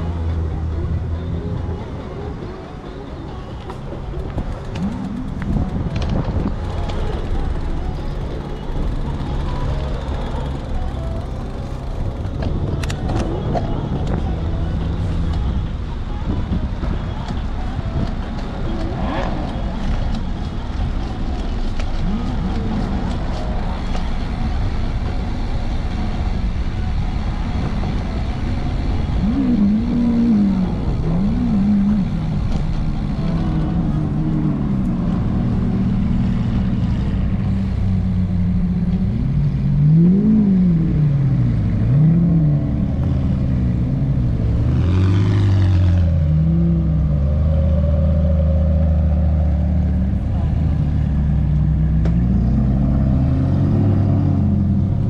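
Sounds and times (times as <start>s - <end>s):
hum of engines: 0.0s - 55.0s
sports car engines revving: 4.1s - 55.0s.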